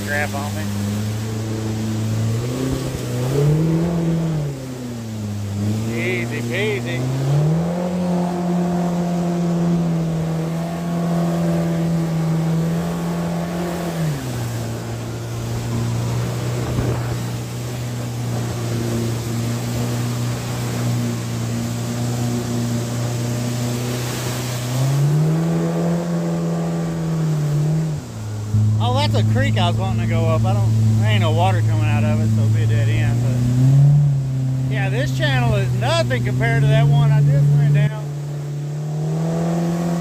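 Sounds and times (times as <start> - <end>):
outboard motor running: 0.0 - 40.0
water rushing: 0.0 - 40.0.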